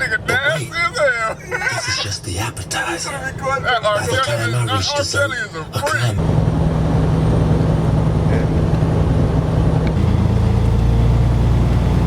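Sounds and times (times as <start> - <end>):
truck engine and road drone: 0.0 - 12.0.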